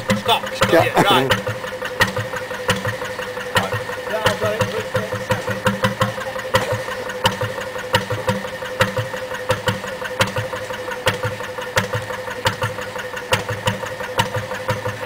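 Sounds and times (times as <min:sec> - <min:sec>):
boat engine thudding at idle: 0:00.0 - 0:15.0.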